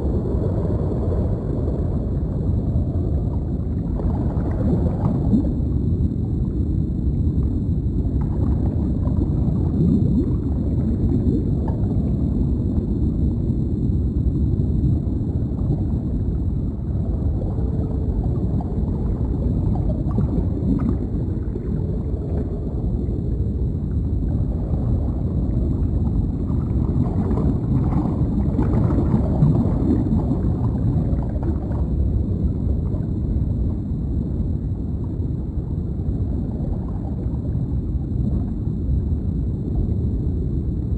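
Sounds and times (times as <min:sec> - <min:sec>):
bubbling and gurgling: 0:00.0 - 0:40.9
underwater low rumble: 0:00.0 - 0:40.9.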